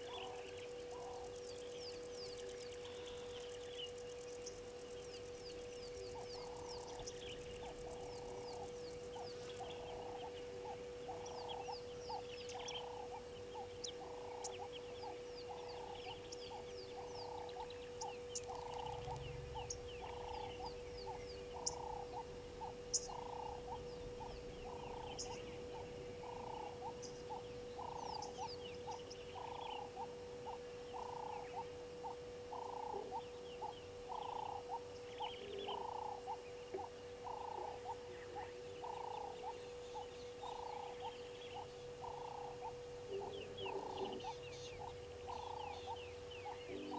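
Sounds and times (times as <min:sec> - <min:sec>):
frog calling: 0:00.0 - 0:46.9
small birds chirping: 0:00.0 - 0:46.9
steady low hum: 0:00.0 - 0:46.9.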